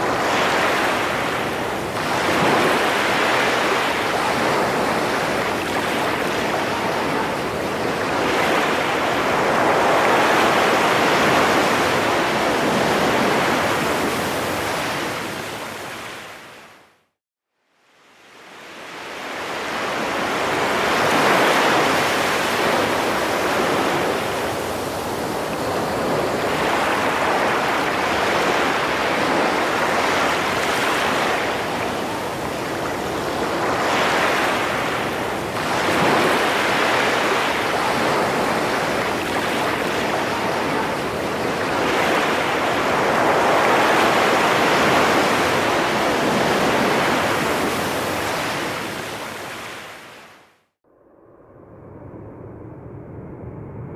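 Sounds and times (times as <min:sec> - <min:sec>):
ocean surf breaking: 0:00.0 - 0:16.7, 0:18.3 - 0:50.4.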